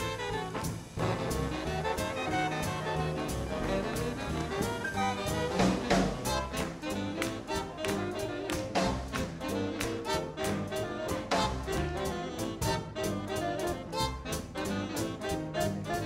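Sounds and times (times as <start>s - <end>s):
swing big band playing: 0.0s - 16.0s.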